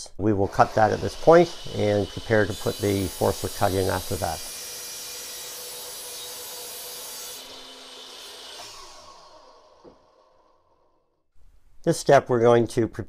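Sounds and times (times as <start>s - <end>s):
miter saw cutting and spinning down: 0.4s - 11.0s.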